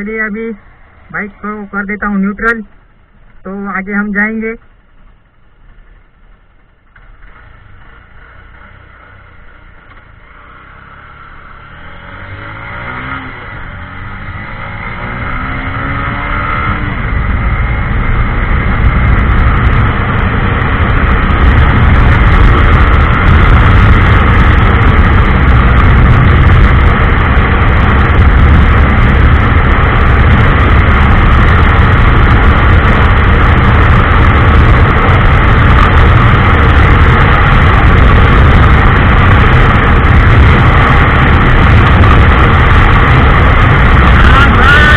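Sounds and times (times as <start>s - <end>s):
wind rush on microphone: 0.0s - 44.9s
motorcycle engine accelerating: 4.6s - 44.9s.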